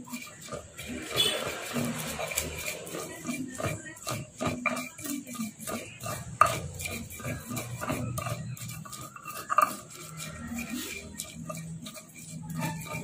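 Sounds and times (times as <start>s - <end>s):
stone pestle grinding in mortar: 0.0s - 13.0s.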